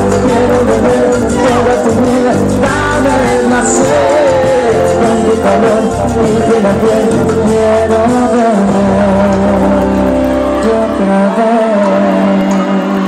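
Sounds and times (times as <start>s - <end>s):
lead singer singing: 0.0s - 13.0s
live cumbia band playing: 0.0s - 13.0s.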